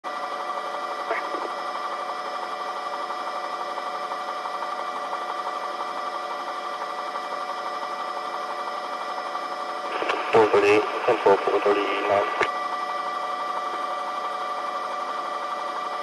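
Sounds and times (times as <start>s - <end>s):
helicopter mechanical drone: 0.1s - 16.0s.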